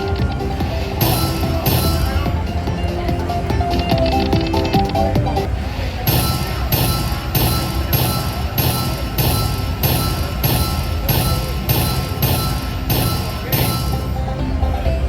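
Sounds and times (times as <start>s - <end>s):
slot machine music: 0.0s - 5.5s, 6.1s - 14.6s.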